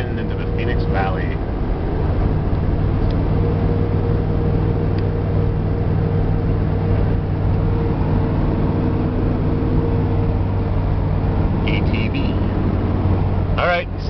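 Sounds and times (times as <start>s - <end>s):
low engine drone: 0.0s - 14.0s
road noise: 0.0s - 14.0s.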